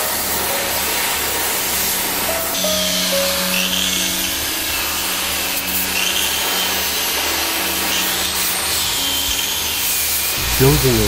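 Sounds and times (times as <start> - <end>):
soft sustained music notes: 0.0 - 11.0
welding arc hissing: 0.0 - 11.0.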